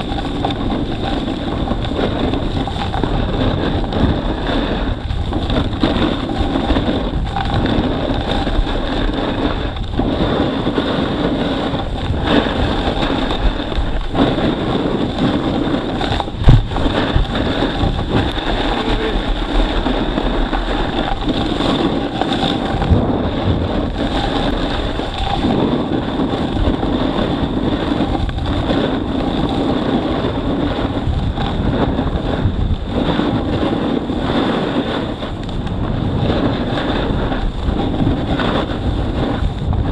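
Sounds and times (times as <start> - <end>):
snowboard scraping over snow: 0.0 - 39.9
wind on microphone: 0.0 - 39.9.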